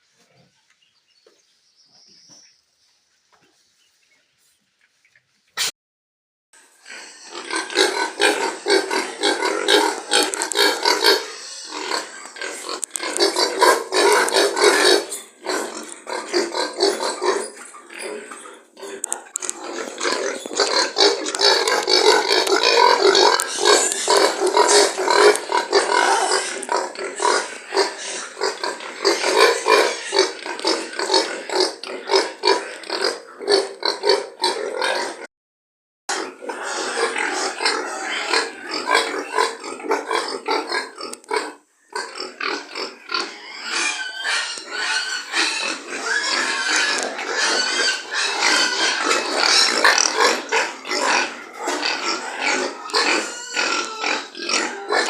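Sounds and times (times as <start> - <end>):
pigs grunting and calling: 6.6 - 35.3, 36.1 - 55.0.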